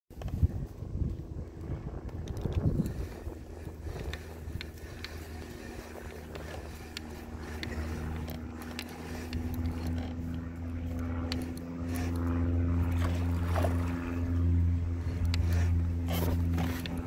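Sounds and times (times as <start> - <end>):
boat motor humming: 0.1 - 17.0.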